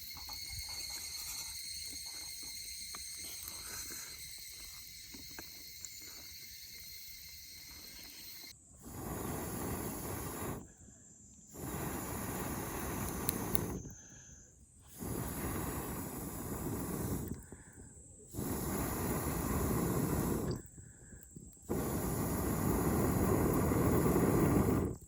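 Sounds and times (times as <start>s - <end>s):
loud rushing hiss: 0.0s - 10.7s, 11.5s - 13.9s, 14.9s - 17.4s, 18.3s - 20.6s, 21.7s - 25.0s
insects singing: 0.0s - 25.0s.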